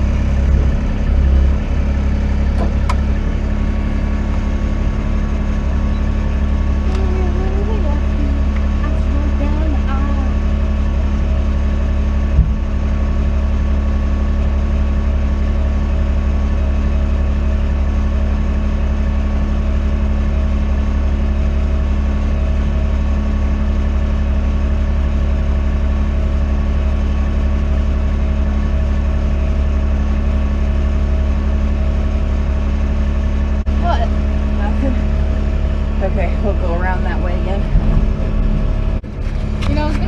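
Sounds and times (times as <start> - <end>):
loader engine running: 0.0 - 40.0.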